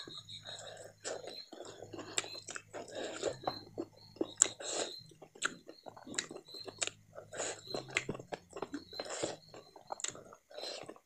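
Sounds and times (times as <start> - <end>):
mouth clicks and smacks: 0.1 - 11.0
person chewing meat: 0.1 - 11.0.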